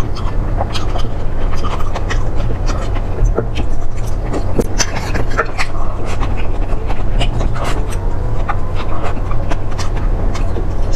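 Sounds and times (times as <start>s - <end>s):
mouth chewing food: 0.0s - 10.9s
steady low hum: 0.0s - 10.9s.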